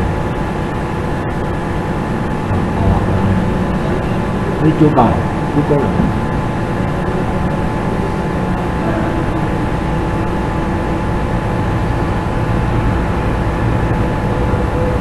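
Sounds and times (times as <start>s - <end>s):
faint constant whine: 0.0s - 15.0s
low rumbling background noise: 0.0s - 15.0s.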